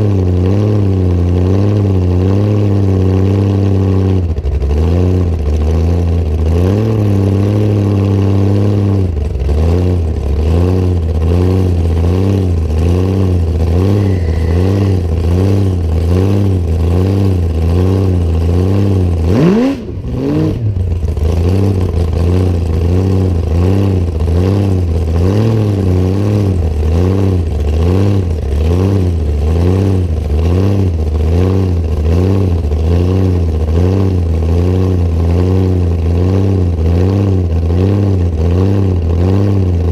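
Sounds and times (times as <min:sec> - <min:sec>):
car engine through open exhaust: 0:00.0 - 0:39.9.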